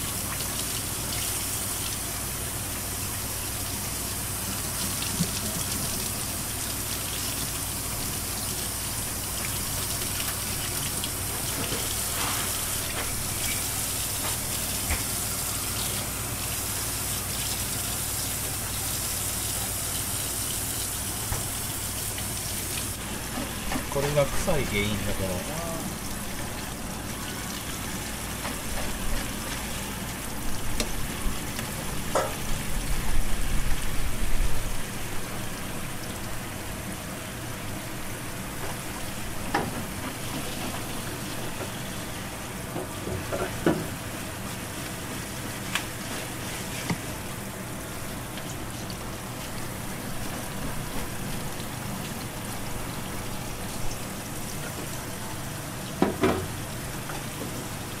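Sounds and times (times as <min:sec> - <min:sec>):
steady kitchen hiss: 0:00.0 - 0:58.0.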